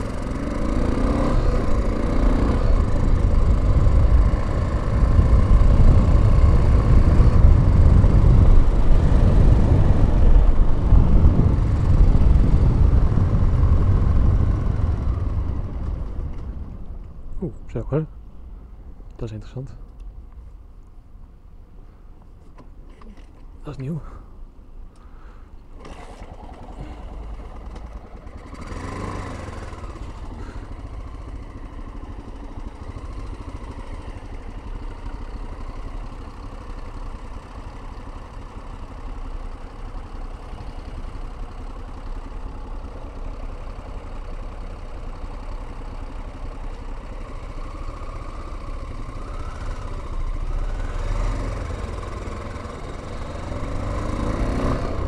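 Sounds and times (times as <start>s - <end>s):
motorcycle engine running: 0.0s - 17.4s, 25.8s - 55.0s.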